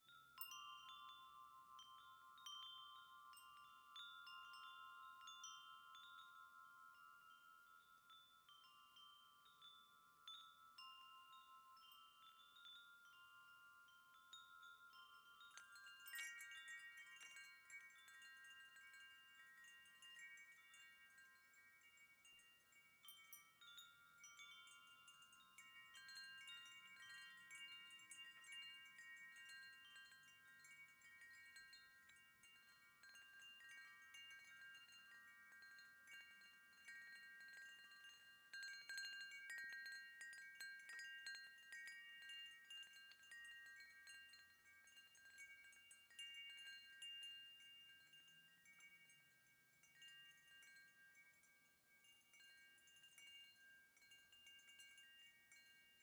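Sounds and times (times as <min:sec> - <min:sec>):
bright tinkling: 0:00.0 - 0:56.0
wind chime ringing: 0:00.0 - 0:56.0.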